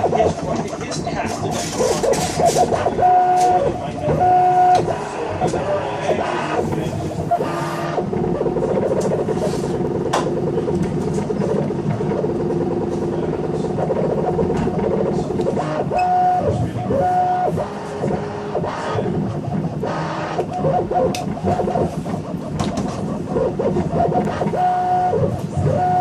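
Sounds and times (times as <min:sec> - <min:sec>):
printer mechanics whirring: 0:00.0 - 0:26.0
stepper motors whining: 0:00.0 - 0:26.0.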